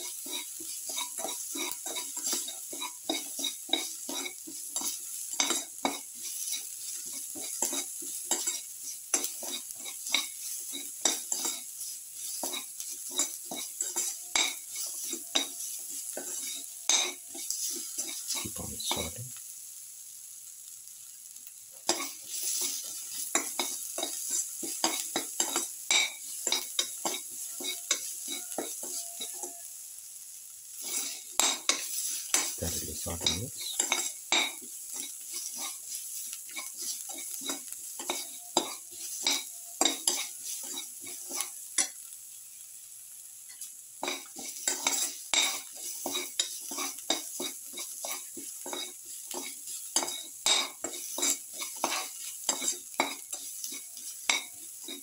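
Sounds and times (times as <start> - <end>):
utensil scraping pan: 0.0 - 18.5, 21.9 - 29.7, 30.8 - 41.6, 43.6 - 55.0
garlic and onion sizzling in oil: 0.0 - 55.0.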